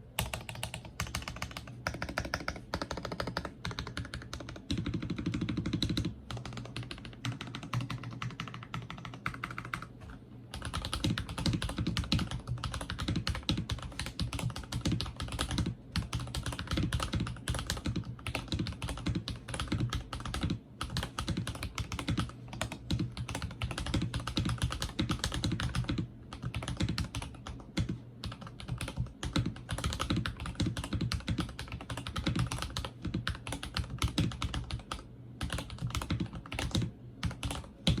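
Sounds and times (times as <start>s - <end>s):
mechanical keyboard typing: 0.2s - 38.0s.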